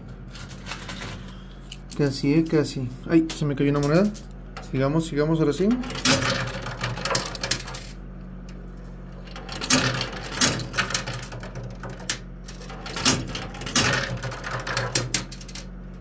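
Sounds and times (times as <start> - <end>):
machine low hum: 0.0 - 16.0.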